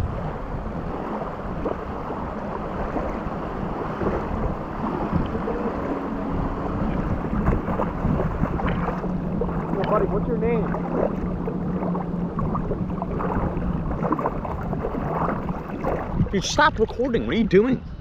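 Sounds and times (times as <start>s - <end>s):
surf: 0.0s - 17.8s
wind: 0.0s - 18.0s.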